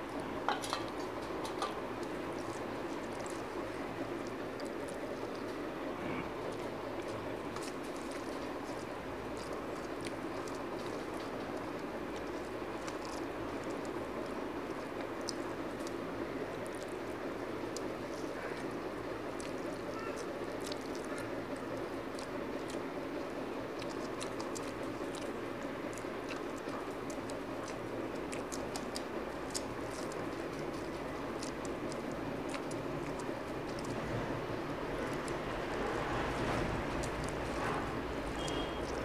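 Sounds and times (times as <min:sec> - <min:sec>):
fingers mixing rice: 0:00.0 - 0:39.0
wet chewing clicks: 0:00.0 - 0:39.0.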